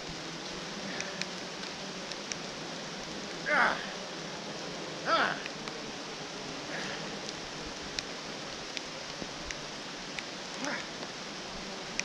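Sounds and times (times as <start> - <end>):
faint ticks: 0.0 - 3.8, 4.5 - 6.0, 6.6 - 12.0
rain hiss on forest ground: 0.0 - 12.0.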